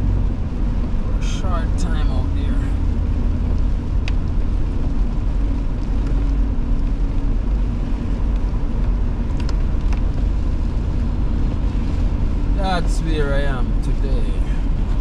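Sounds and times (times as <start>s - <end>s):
truck driving on wet road: 0.0s - 15.0s.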